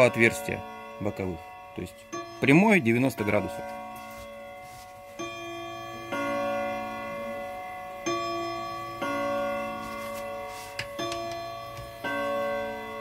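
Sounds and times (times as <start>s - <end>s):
bell-like chime notes ringing: 0.0s - 13.0s.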